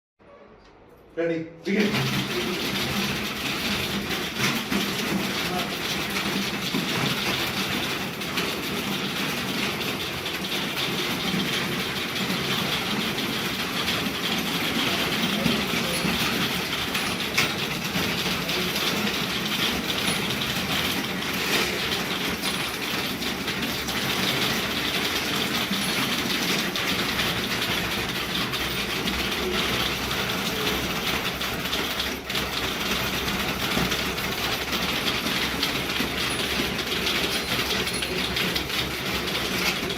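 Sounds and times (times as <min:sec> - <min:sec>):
fast typing on keyboard: 0:01.8 - 0:39.9.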